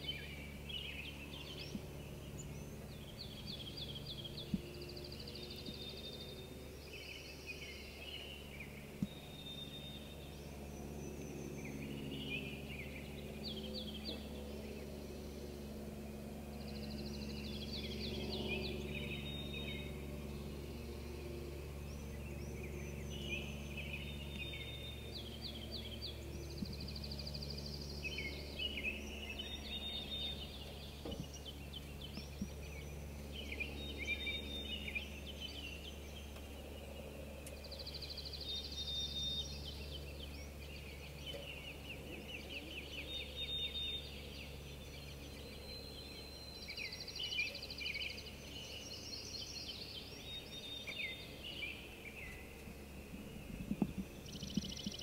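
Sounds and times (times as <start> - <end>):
songbirds singing: 0.0 - 55.0
steady low hum: 0.0 - 55.0.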